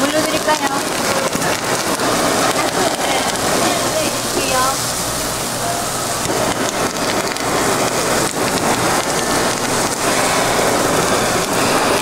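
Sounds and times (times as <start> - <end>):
onions sizzling on a griddle: 0.0 - 12.0.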